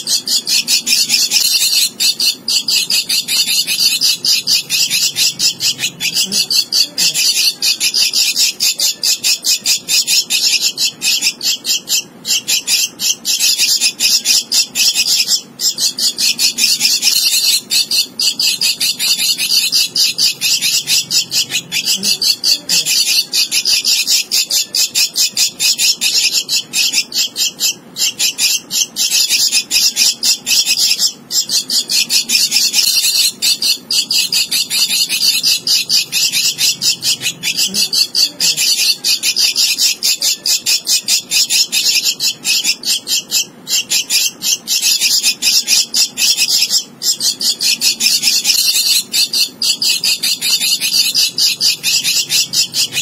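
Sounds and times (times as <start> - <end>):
nestling begging calls: 0.0 - 53.0.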